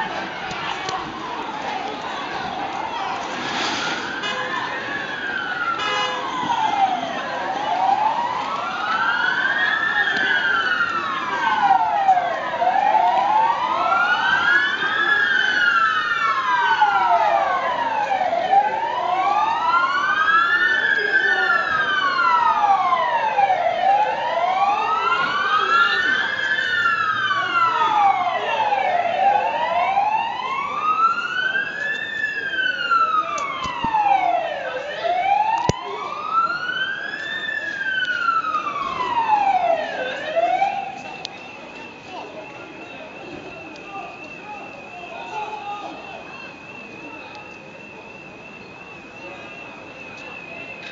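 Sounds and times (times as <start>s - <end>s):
police sirens wailing: 0.0s - 50.9s.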